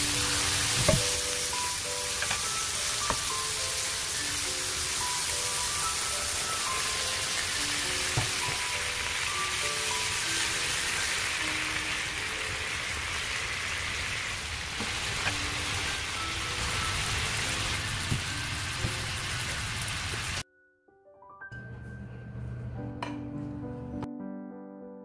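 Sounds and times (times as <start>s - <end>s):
steaks sizzling in a frying pan: 0.0s - 20.4s
quiet background music: 0.0s - 24.9s.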